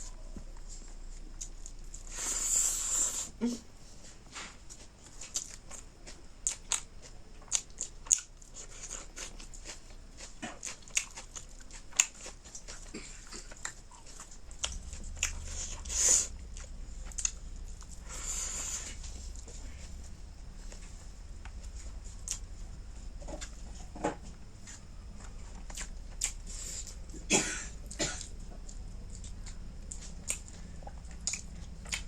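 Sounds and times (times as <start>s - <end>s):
chewing and crunching: 0.0s - 3.2s, 4.2s - 32.0s.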